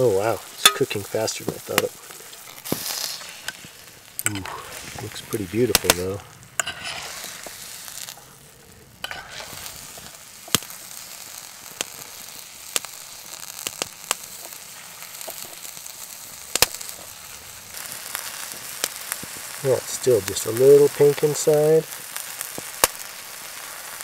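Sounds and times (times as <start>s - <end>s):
oil popping: 0.0s - 21.3s
fish sizzling in oil: 0.0s - 24.0s.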